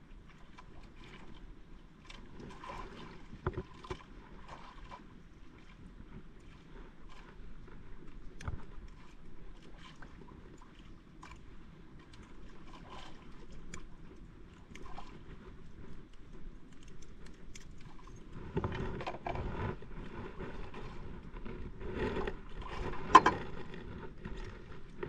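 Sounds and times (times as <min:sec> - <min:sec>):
water against boat hull: 0:00.0 - 0:25.0.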